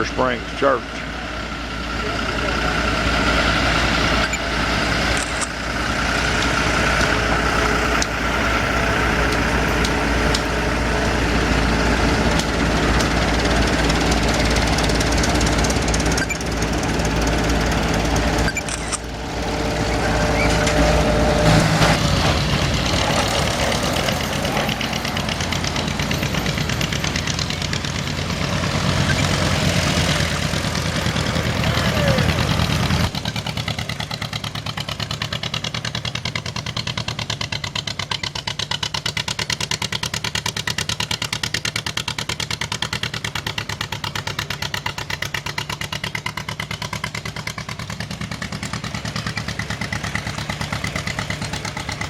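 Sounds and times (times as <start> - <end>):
tractor engines running: 0.0 - 52.0.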